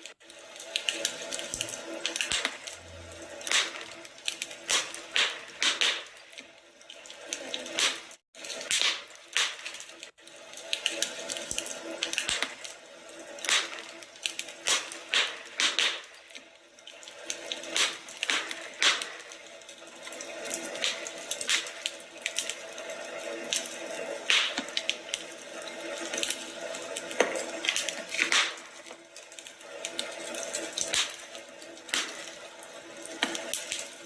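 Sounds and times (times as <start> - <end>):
fire snaps and pops: 0.0 - 34.0
wood fire crackling: 0.0 - 34.0.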